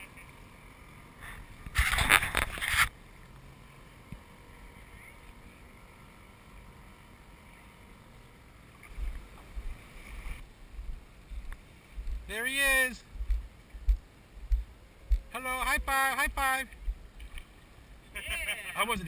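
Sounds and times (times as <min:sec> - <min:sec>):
distant outboard boat motor: 0:00.0 - 0:19.0.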